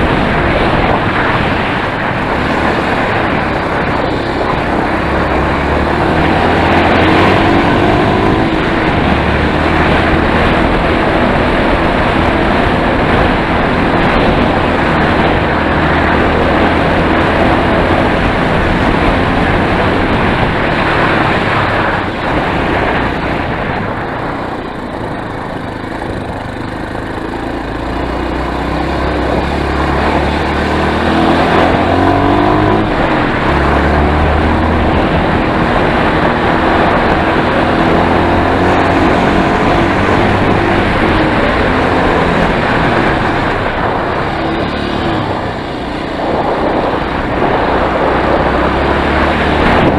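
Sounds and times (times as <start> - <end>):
motorcycle engine revving: 0.0 - 49.9
steady rushing noise: 0.0 - 49.9.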